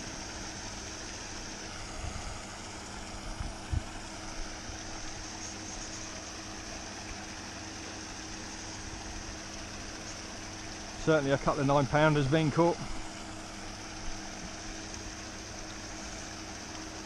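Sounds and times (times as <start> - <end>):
aerator motor hum: 0.0 - 17.0.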